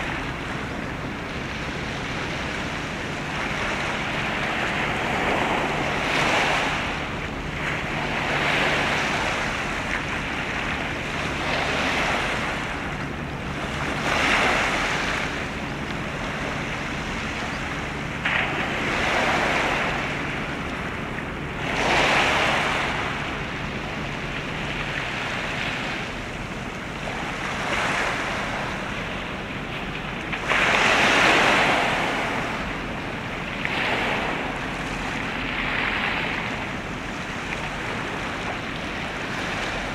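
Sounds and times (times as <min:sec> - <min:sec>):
waves rushing: 0:00.0 - 0:39.9
wind: 0:00.0 - 0:39.9.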